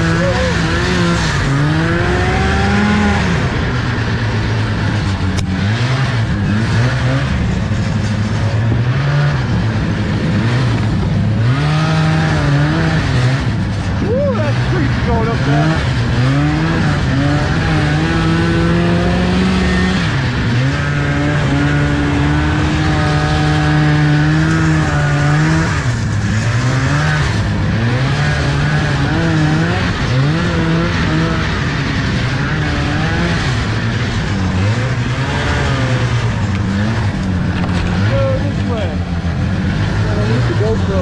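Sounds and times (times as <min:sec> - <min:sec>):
snowmobile engine revving: 0:00.0 - 0:41.0.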